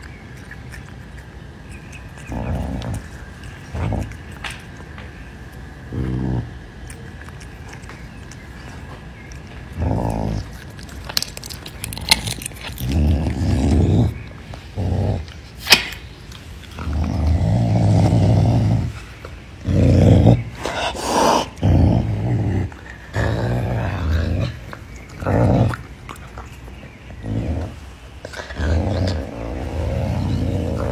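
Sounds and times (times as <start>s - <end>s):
caracal growling: 0.0s - 5.0s, 5.6s - 15.6s, 16.6s - 30.9s.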